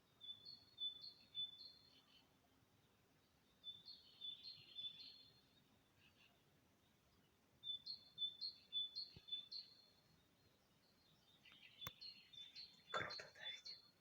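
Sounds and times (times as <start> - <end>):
songbird singing faintly: 0.0 - 14.0.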